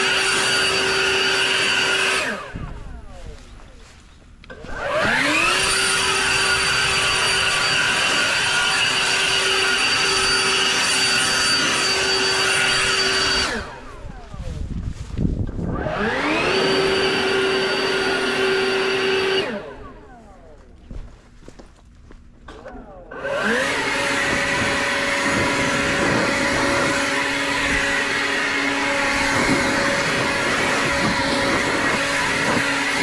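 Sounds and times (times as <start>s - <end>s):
leaf blower whining: 0.0s - 33.0s.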